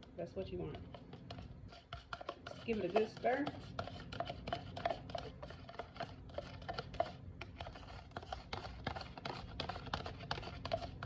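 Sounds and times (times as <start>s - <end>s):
spoon stirring and scraping container: 0.0s - 11.0s.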